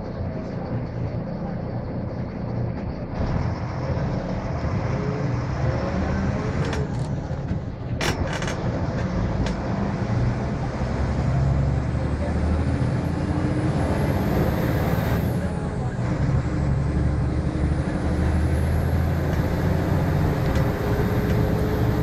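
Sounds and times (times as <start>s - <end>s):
diesel engine droning: 0.0s - 22.0s
road noise: 0.0s - 22.0s.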